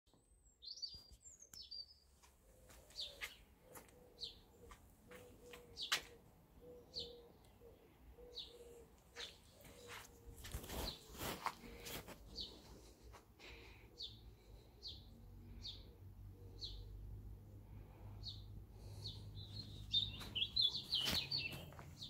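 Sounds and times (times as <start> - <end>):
birds chirping: 0.1 - 17.1, 17.7 - 22.0.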